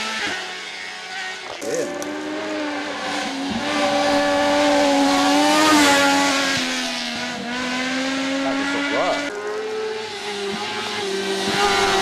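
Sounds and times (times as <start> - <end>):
racing motorcycle engine passing: 0.0 - 12.0.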